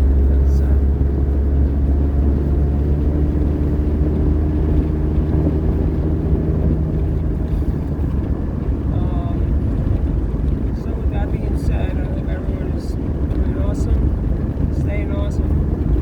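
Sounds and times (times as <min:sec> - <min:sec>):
car interior road rumble: 0:00.0 - 0:16.0
engine drone: 0:00.0 - 0:16.0.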